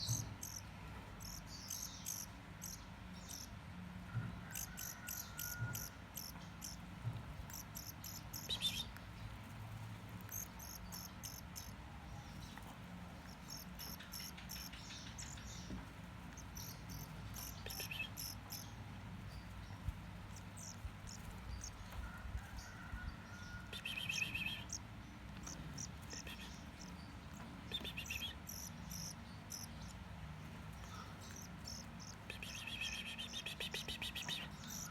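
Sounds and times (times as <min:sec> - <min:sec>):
finch singing trills: 0:00.0 - 0:03.5, 0:04.5 - 0:09.2, 0:10.2 - 0:22.8, 0:23.6 - 0:34.9.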